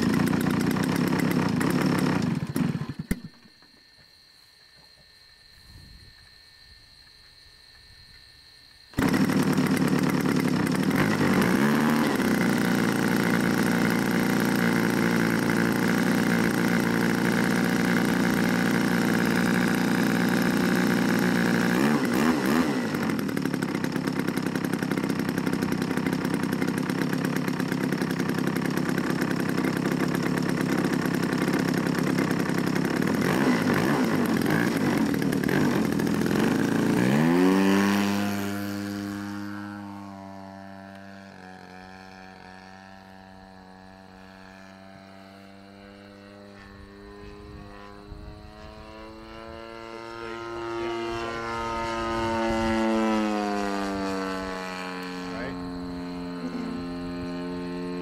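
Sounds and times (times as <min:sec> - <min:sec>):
model plane gas engine running: 0:00.0 - 0:03.5, 0:08.9 - 0:58.0.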